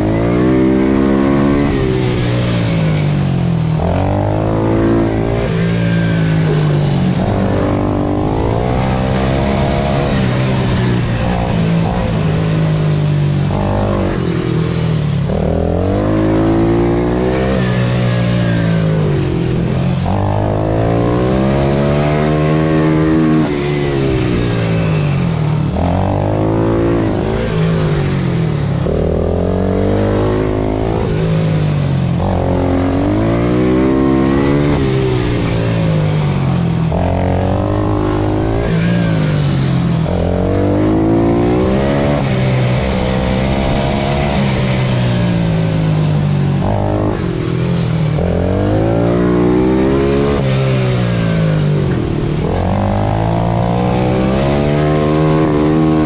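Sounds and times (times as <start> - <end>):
pit bike engine accelerating: 0.0 - 56.0.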